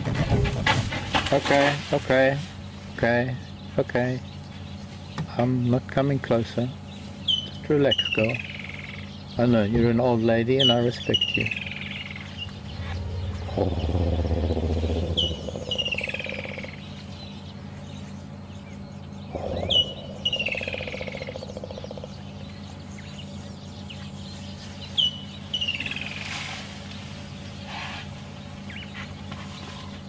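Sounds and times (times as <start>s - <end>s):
low buzzing rumble: 0.0s - 30.0s
steady low hum: 0.0s - 30.0s
bird song phrase: 1.3s - 26.3s.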